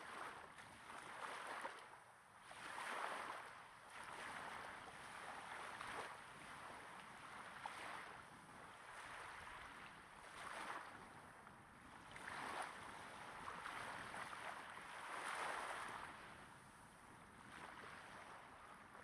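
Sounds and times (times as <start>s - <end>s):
small waves breaking on sand: 0.0s - 19.0s.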